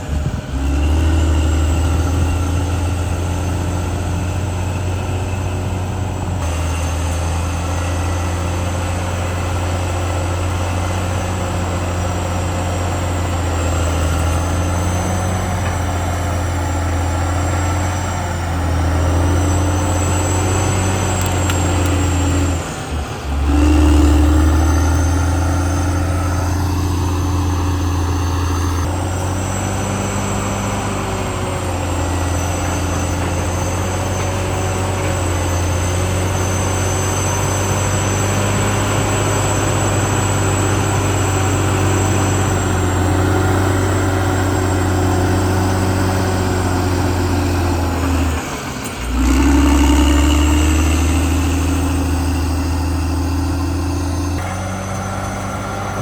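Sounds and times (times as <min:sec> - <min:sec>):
bulldozer diesel drone: 0:00.0 - 0:56.0
high whine of steel tracks: 0:00.0 - 0:56.0.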